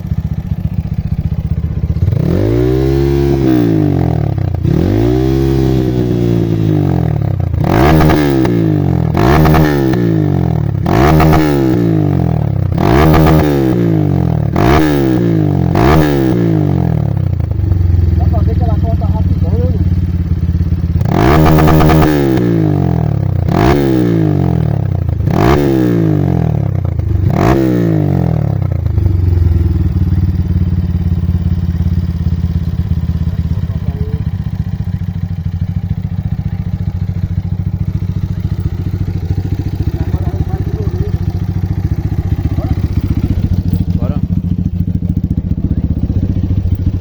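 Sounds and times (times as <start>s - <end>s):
motorcycle engine idling: 0.0s - 47.0s
motorcycle engine revving: 0.0s - 47.0s.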